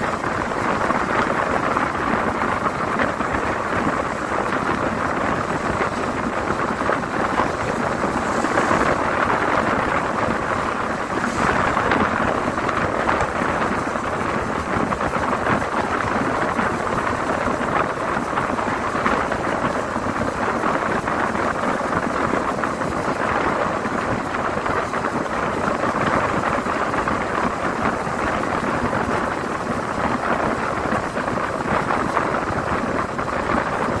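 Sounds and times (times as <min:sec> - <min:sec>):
road noise: 0:00.0 - 0:34.0
wind rush from moving vehicle: 0:00.0 - 0:34.0.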